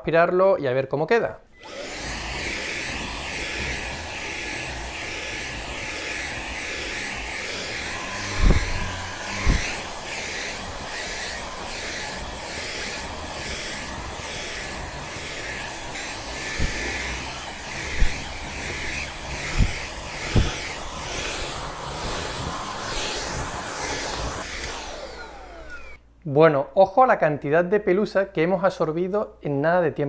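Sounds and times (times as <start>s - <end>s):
cordless vacuum brushing upholstery: 1.6s - 26.0s.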